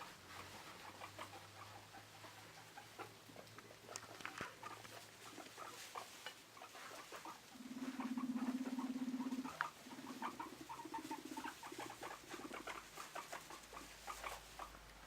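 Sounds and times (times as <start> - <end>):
guinea pig rumbling: 0.0 - 15.0
paws pattering in bedding: 0.0 - 15.0.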